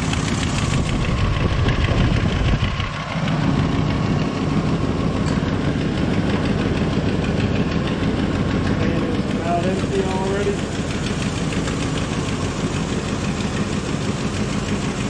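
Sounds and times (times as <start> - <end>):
ac compressor running: 0.0 - 15.0
car engine idling: 0.0 - 15.0.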